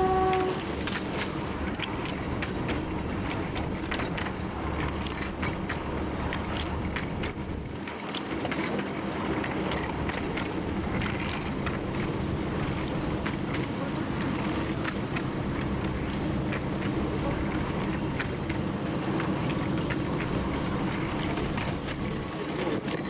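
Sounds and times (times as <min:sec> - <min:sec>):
clicks and rattles over track: 0:00.0 - 0:23.0
diesel locomotive running: 0:00.0 - 0:23.0.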